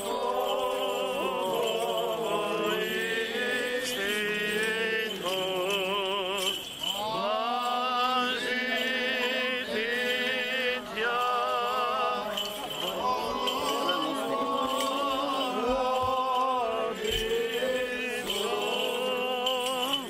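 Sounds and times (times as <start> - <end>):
church chant: 0.0 - 20.0.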